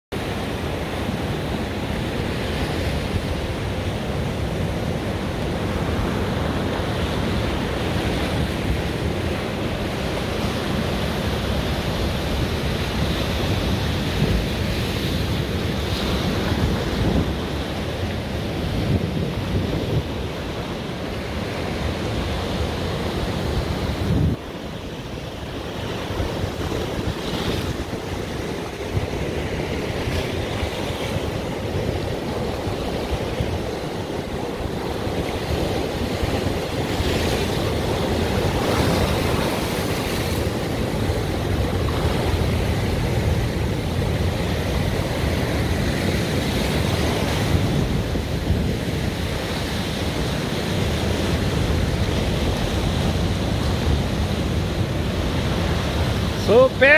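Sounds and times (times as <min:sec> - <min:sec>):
ocean surf breaking over rocks: 0:00.2 - 0:56.9
wind buffeting microphone: 0:00.7 - 0:56.4.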